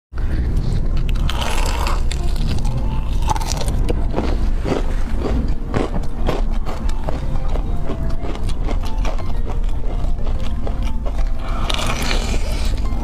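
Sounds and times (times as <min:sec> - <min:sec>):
steady low rumble: 0:00.2 - 0:13.0
crispy chicken crunching: 0:00.8 - 0:13.0.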